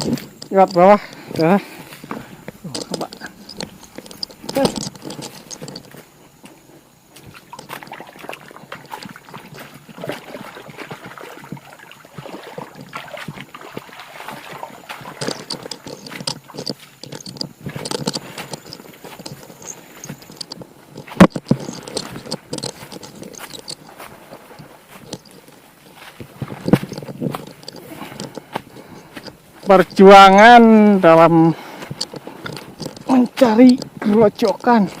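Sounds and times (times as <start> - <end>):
footsteps crunching leaves and twigs: 0.0 - 35.0.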